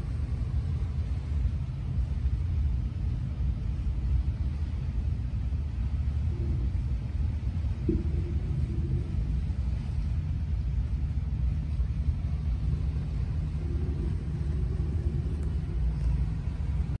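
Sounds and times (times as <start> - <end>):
boat engine and hull rumble: 0.0 - 17.0
faint hum: 0.0 - 17.0.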